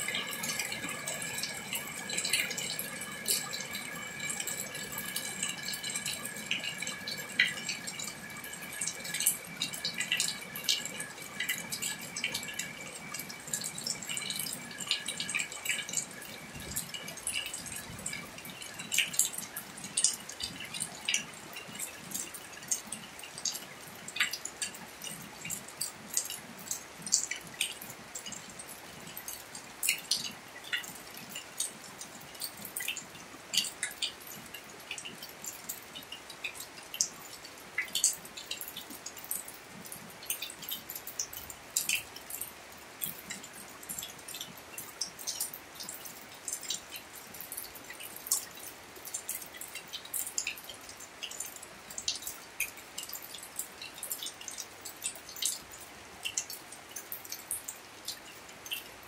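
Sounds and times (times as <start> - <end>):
sharp water drips: 0.0 - 59.0.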